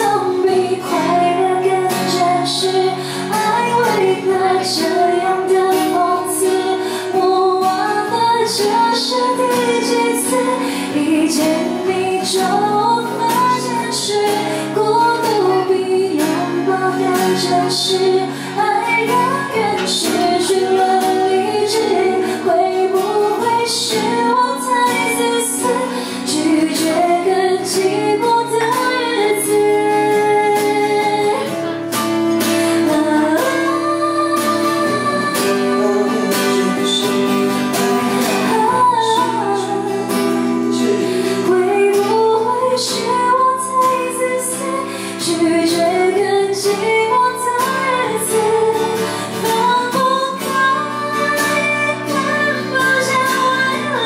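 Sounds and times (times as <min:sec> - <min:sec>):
strummed acoustic guitar: 0:00.0 - 0:54.0
woman singing into microphone: 0:00.0 - 0:54.0.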